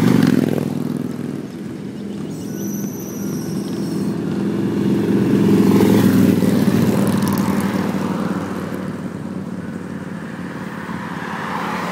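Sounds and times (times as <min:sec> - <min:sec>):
vehicle engine passing: 0:00.0 - 0:11.9.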